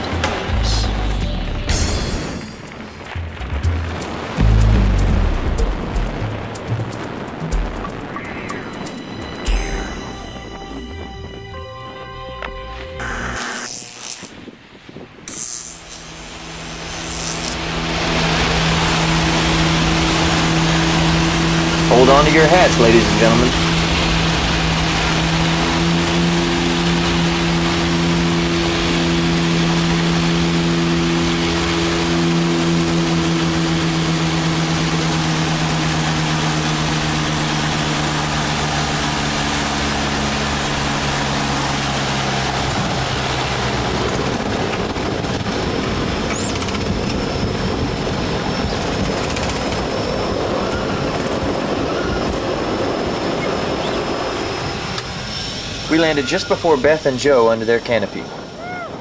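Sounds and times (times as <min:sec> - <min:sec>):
rumbling noise of plane landing: 0:00.0 - 0:13.0, 0:17.6 - 0:59.0
aircraft engine and propeller droning: 0:00.0 - 0:59.0.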